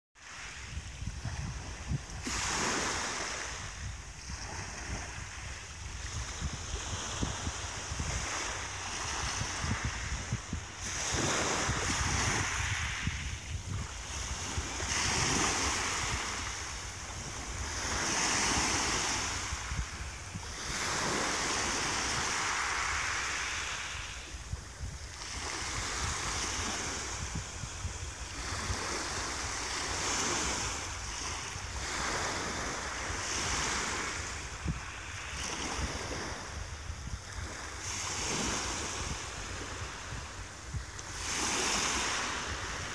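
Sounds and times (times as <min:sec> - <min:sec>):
small waves breaking on beach: 0:00.2 - 0:42.9.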